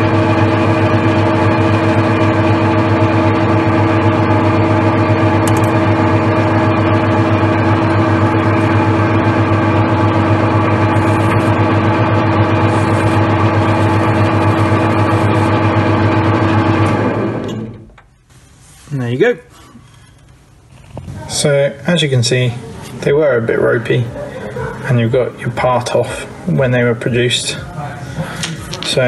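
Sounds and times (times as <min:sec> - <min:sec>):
metal lathe humming: 0:00.0 - 0:17.8, 0:22.5 - 0:29.0.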